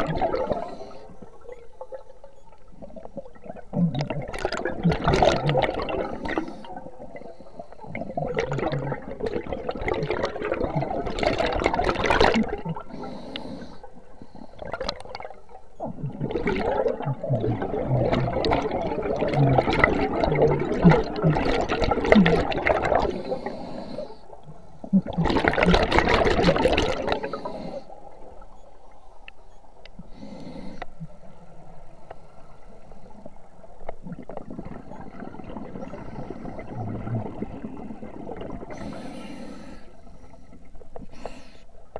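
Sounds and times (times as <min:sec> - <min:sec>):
regulator bubbles gurgling: 0:00.0 - 0:30.2, 0:30.9 - 0:41.2.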